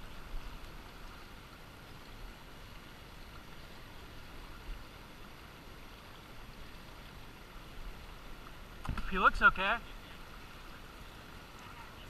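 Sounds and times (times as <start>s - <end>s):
river current rushing over riffles: 0.0s - 12.0s.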